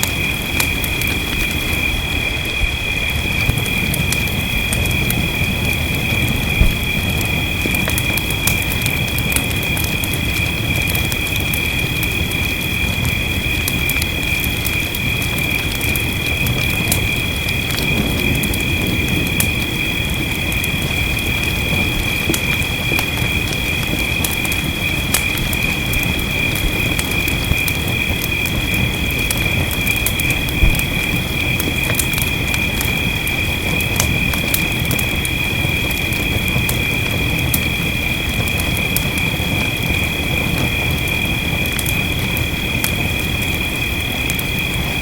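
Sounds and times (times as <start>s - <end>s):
fire crackling and popping: 0.0s - 45.0s
rain: 0.0s - 45.0s.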